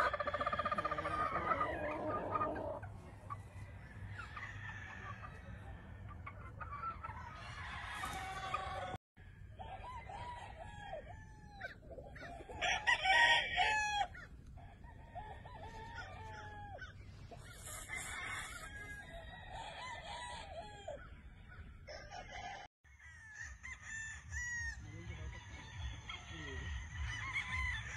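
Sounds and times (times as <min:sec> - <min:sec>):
roosters crowing: 0:00.0 - 0:27.9.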